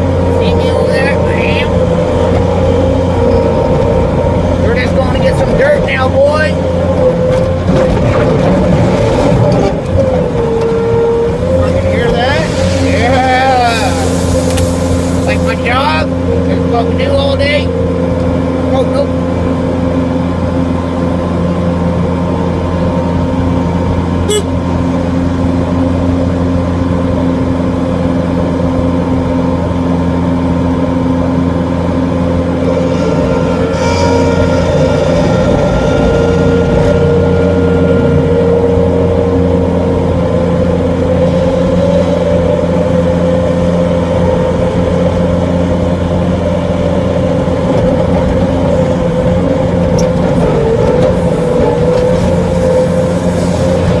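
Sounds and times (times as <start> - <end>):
loader engine running: 0.0 - 54.0.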